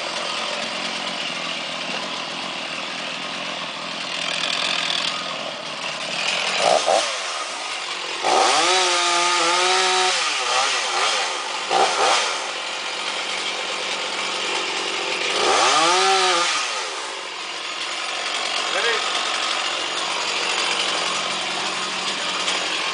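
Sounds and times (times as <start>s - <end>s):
chainsaw engine revving: 0.0s - 22.9s.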